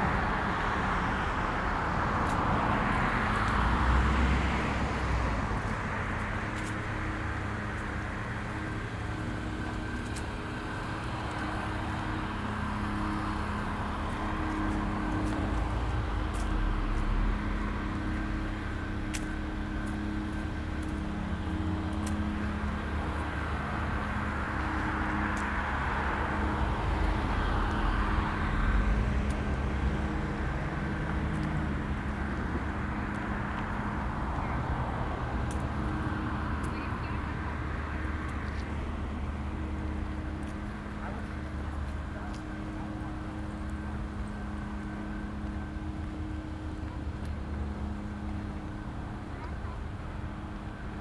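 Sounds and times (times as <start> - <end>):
cars passing: 0.0 - 51.0
low engine hum: 0.0 - 51.0.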